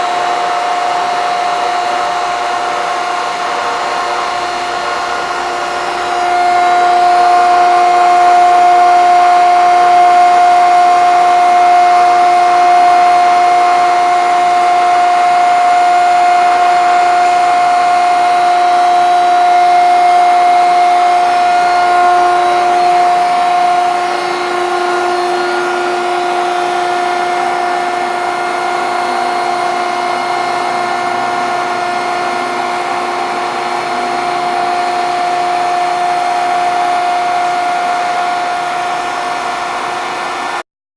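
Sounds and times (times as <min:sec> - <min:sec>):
grinder motor whine: 0:00.0 - 0:40.6.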